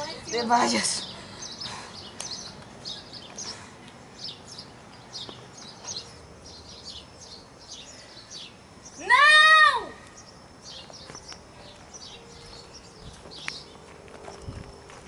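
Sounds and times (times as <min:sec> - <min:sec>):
faint outdoor background noise: 0:00.0 - 0:15.0
small birds chirping: 0:00.0 - 0:15.0.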